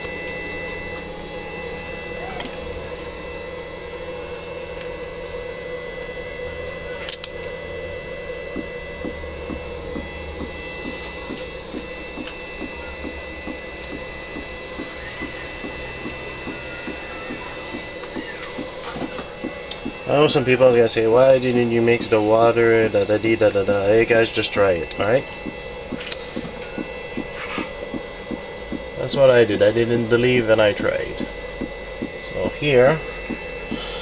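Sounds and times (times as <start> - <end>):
steady hum with high whine: 0.0 - 34.0.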